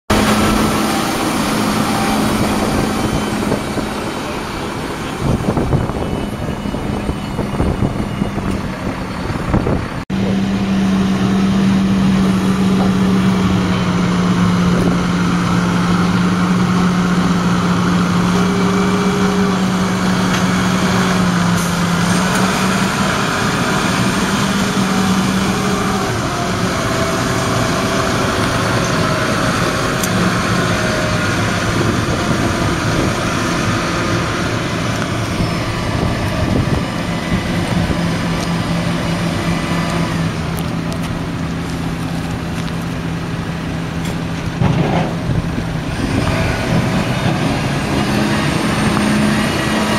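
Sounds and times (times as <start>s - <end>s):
tractor diesel engine running: 0.1s - 49.9s.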